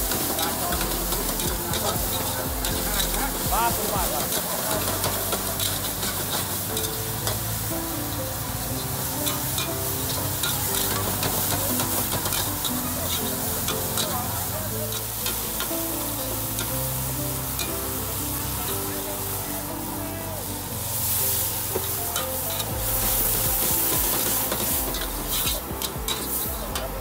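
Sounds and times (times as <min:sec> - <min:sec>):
meat sizzling in a wok: 0:00.0 - 0:27.0.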